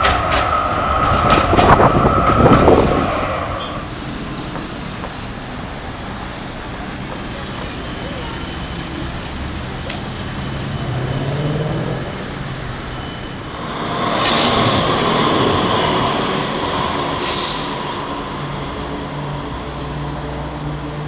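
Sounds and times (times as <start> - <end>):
tram wheels on rail: 0.0 - 21.0
car engines idling: 3.5 - 21.0.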